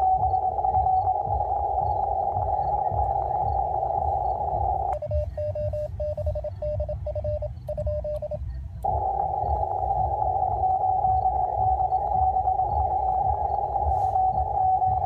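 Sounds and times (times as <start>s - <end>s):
morse code tone: 0.0s - 15.0s
radio band hiss: 0.0s - 15.0s.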